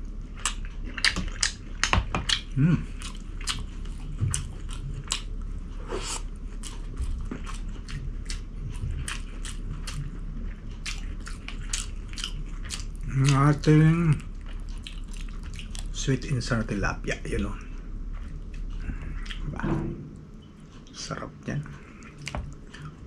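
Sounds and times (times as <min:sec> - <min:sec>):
person chewing and crunching: 0:00.2 - 0:16.1, 0:18.1 - 0:19.5, 0:21.8 - 0:23.0.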